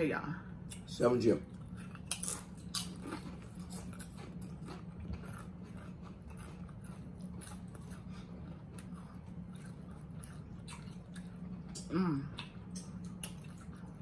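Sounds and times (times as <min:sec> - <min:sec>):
low steady hum: 0:00.0 - 0:14.0
chips being chewed: 0:01.5 - 0:14.0.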